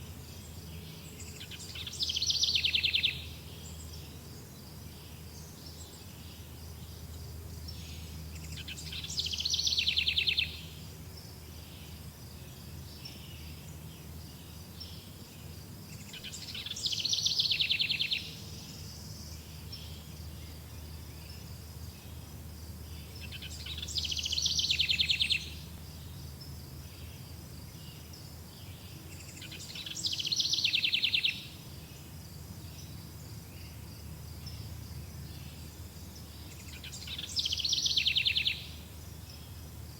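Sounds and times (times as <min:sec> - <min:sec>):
birds chirping softly: 0:00.0 - 0:39.9
songbird singing: 0:00.0 - 0:39.9.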